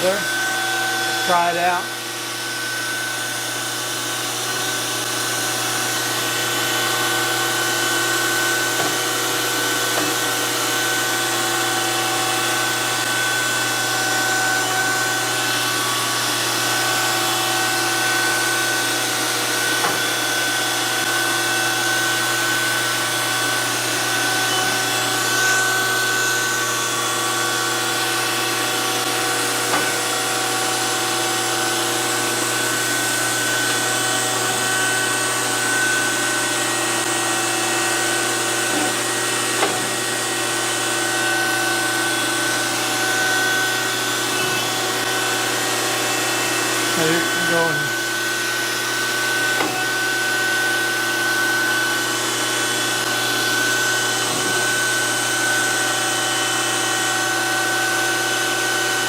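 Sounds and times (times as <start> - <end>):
surface grinder whining: 0.0 - 59.0.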